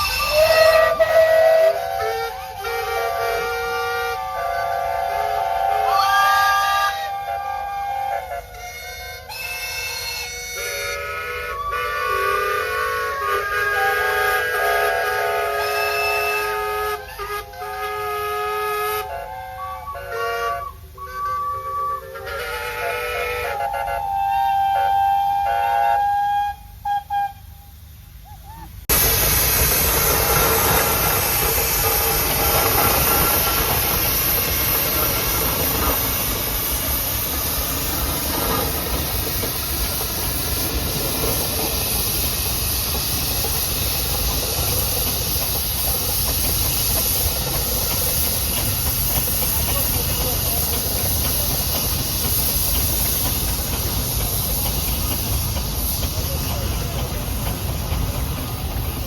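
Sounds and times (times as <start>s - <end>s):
steam engine whistle: 0.0s - 57.5s
steam hissing: 0.0s - 59.0s.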